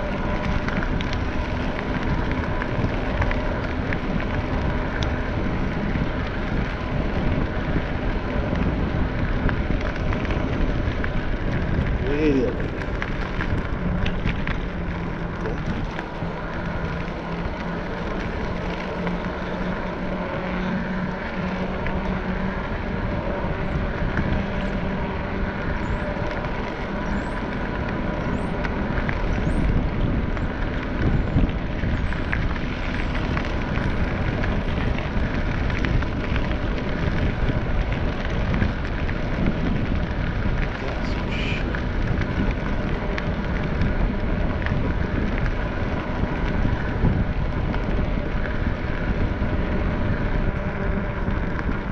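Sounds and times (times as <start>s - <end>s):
low hum: 0.0s - 51.9s
road rumble: 0.0s - 51.9s
wind rush on microphone: 0.0s - 51.9s.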